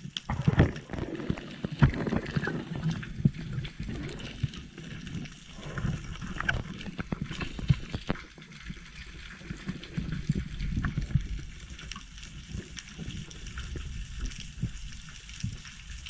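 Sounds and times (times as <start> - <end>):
water gurgling and sloshing: 0.0 - 16.0.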